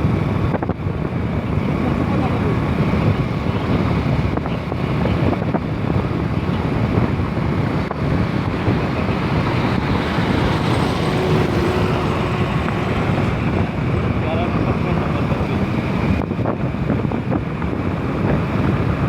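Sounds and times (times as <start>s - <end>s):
traffic-like rumble: 0.0s - 19.0s
wind noise on microphone: 0.0s - 19.0s.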